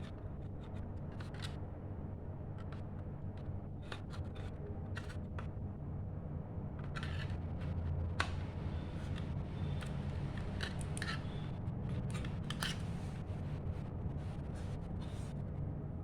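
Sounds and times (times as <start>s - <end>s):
light clicks and scrapes: 0.0s - 1.6s, 2.5s - 5.6s, 6.8s - 15.4s
steady low hum: 0.0s - 16.0s.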